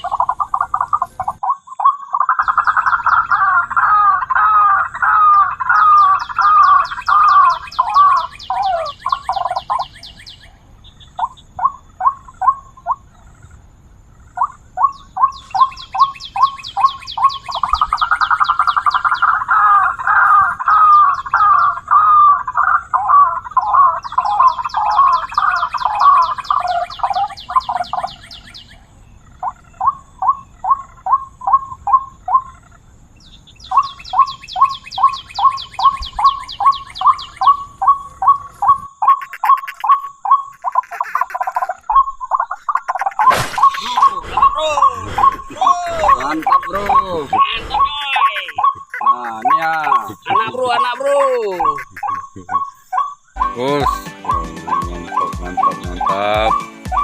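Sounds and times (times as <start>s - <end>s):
bird croaking calls: 0.0s - 57.0s.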